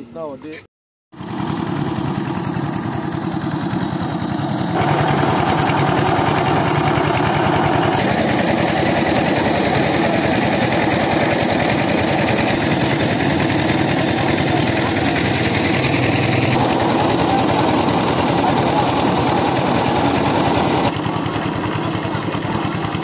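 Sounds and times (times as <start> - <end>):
engine running: 1.2 - 23.0.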